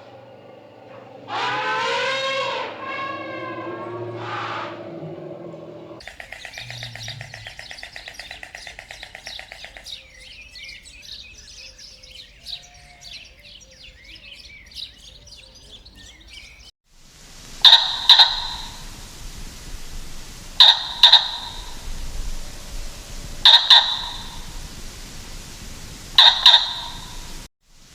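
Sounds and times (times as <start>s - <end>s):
birds chirping: 0.0s - 16.7s, 17.3s - 27.5s
loud sharp bird calls: 0.0s - 16.7s, 17.4s - 27.5s.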